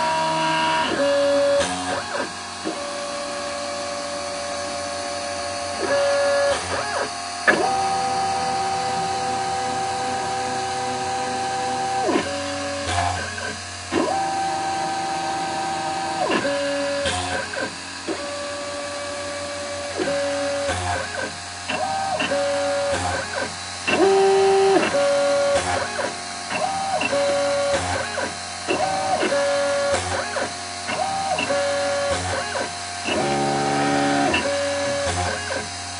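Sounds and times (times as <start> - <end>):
stepper motors whining: 0.0 - 35.9.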